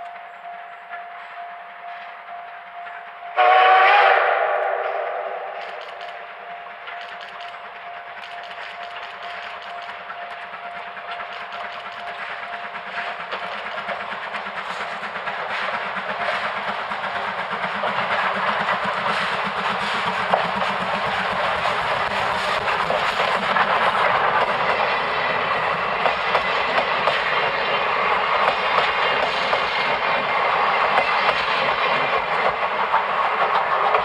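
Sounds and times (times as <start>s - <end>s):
steam locomotive exhaust beats: 0.0s - 34.0s.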